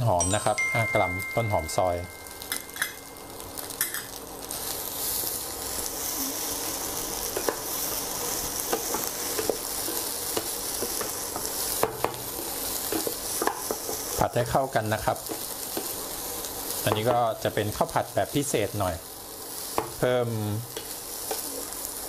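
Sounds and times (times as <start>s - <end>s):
rice sizzling in a pan: 0.1s - 22.0s.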